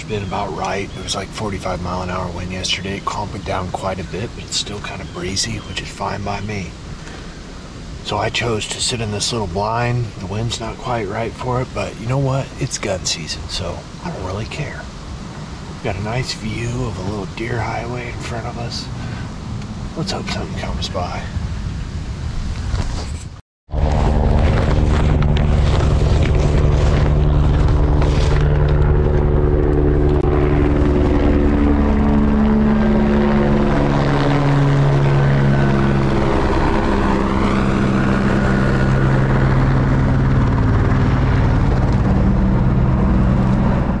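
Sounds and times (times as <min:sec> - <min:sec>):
helicopter flying overhead: 0:00.0 - 0:22.4, 0:23.7 - 0:44.0.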